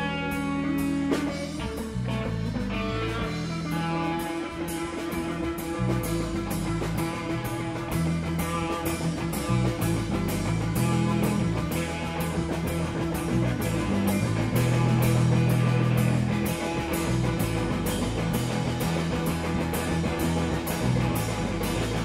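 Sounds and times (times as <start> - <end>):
drum kit beat: 0.0 - 22.0
electric guitar: 0.0 - 22.0.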